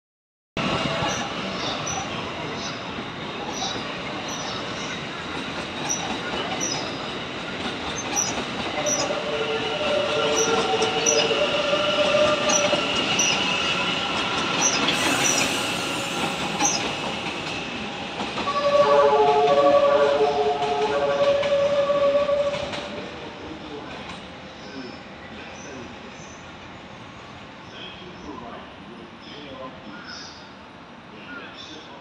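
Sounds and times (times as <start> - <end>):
train wheels rumbling on rail: 0.6 - 27.6.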